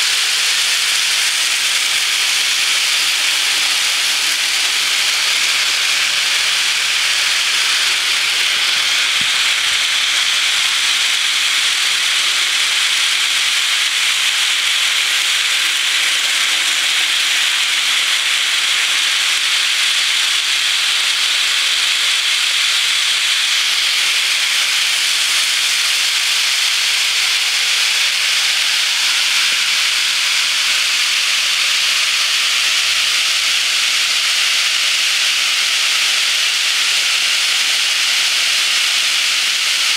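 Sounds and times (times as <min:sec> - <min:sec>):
model train wheels rushing hiss: 0:00.0 - 0:39.9.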